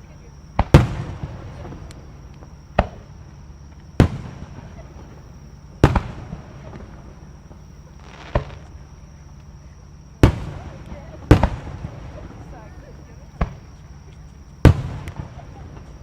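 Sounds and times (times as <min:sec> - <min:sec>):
firework shells booming: 0:00.5 - 0:08.9, 0:10.1 - 0:16.0.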